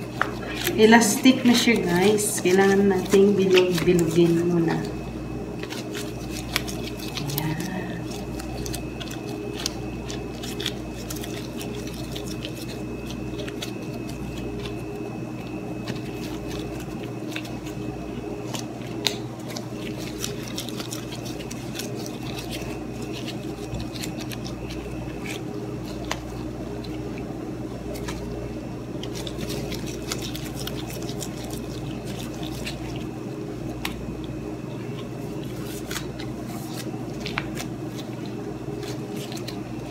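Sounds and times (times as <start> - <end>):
disposable gloves crinkling: 0.0 - 39.9
dough squishing: 0.0 - 39.9
steady hum: 0.0 - 39.9.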